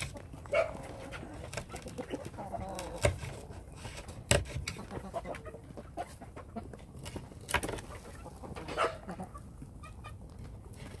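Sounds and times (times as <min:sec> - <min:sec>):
chickens clucking: 0:00.0 - 0:11.0
rabbits chewing feed pellets: 0:00.0 - 0:11.0.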